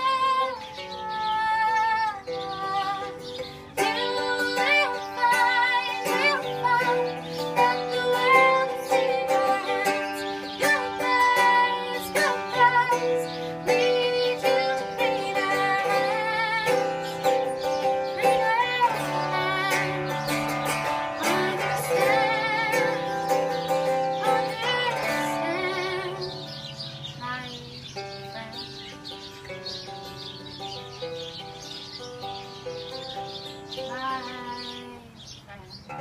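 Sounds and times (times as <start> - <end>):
woman singing with vibrato: 0.0 - 29.0, 33.8 - 35.5
plucked acoustic guitar: 0.0 - 36.0.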